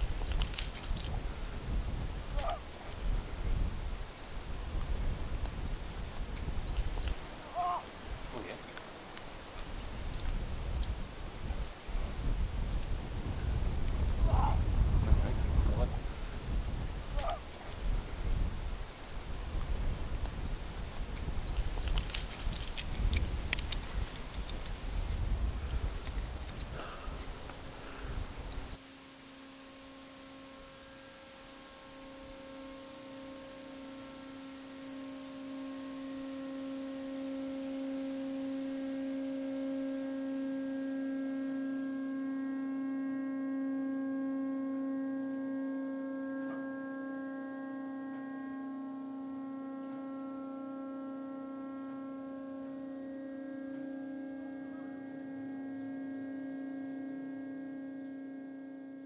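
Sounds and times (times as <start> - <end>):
humming drone with overtones: 0.0 - 59.0.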